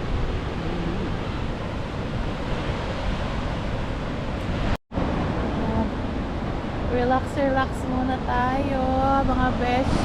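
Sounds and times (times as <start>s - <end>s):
ocean surf breaking: 0.0s - 10.0s
wind buffeting microphone: 0.0s - 10.0s.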